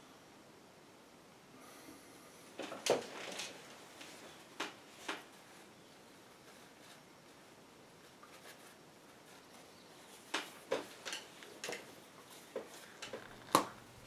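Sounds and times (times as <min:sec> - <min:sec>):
paper towel crinkling: 0:02.6 - 0:14.0.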